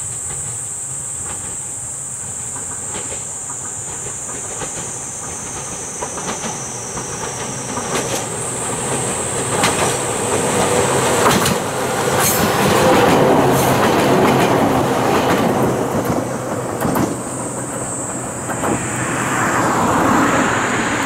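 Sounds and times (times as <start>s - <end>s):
train wheels clacking over rail joints: 0.0s - 18.8s.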